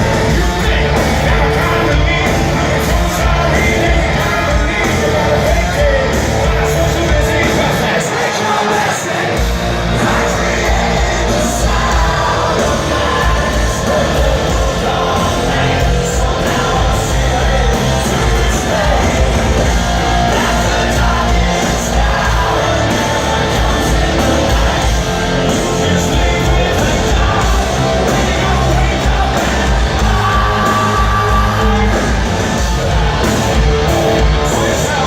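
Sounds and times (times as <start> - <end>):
lead singer singing: 0.0 - 35.0
live hard rock band: 0.0 - 35.0.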